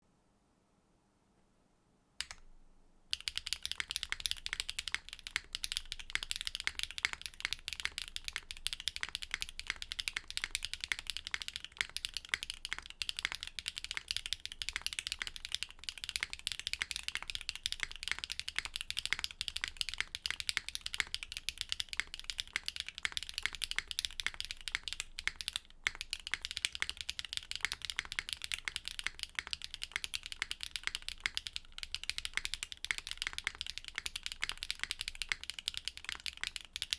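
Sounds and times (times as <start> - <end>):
mechanical keyboard typing: 3.1 - 36.9.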